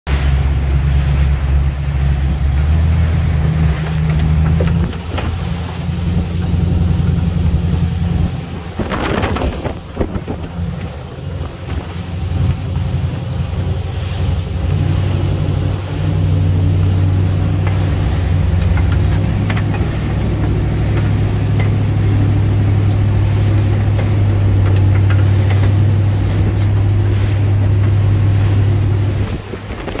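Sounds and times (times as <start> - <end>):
boat engine humming: 0.1 - 30.0
hull sloshing through water: 0.1 - 30.0
wind buffeting microphone: 0.4 - 30.0.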